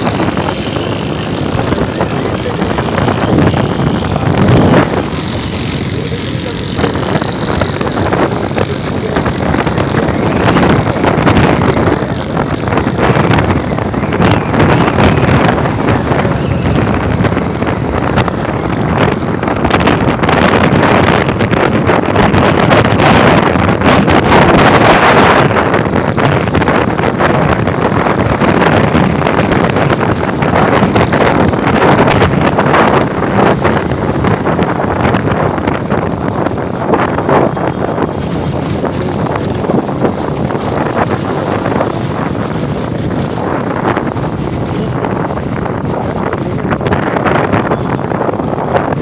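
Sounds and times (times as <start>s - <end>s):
road and traffic noise: 0.0s - 49.0s
wind rushing over microphone: 0.0s - 49.0s.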